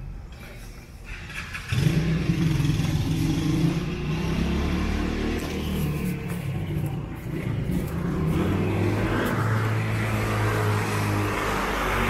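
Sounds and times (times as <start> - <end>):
vehicle engine hum: 0.0 - 12.0
rushing noise of passing vehicle: 1.0 - 12.0.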